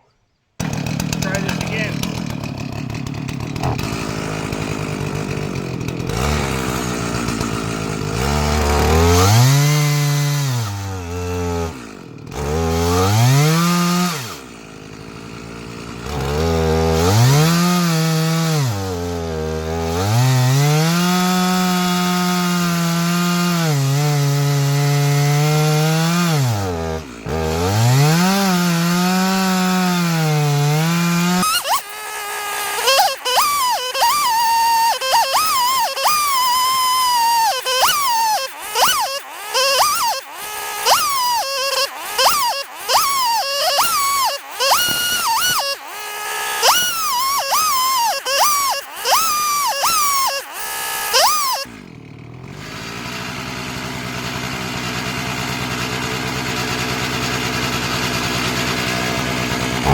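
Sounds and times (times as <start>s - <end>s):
chainsaw cutting log: 0.6s - 59.9s.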